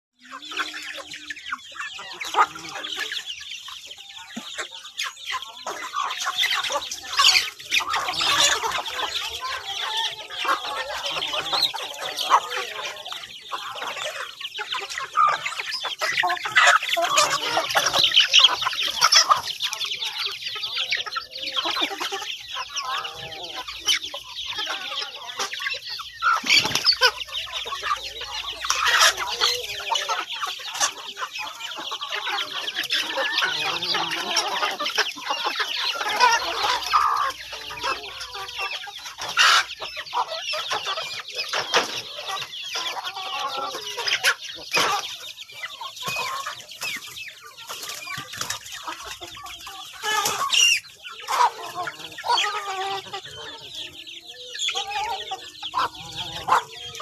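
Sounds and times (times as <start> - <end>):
chickens clucking: 0.2 - 57.0.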